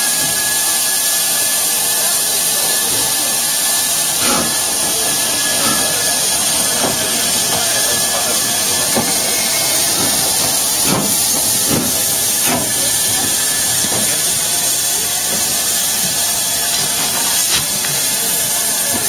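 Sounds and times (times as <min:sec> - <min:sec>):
steam locomotive hissing: 0:00.0 - 0:19.0
soft regular locomotive beats: 0:01.5 - 0:19.0.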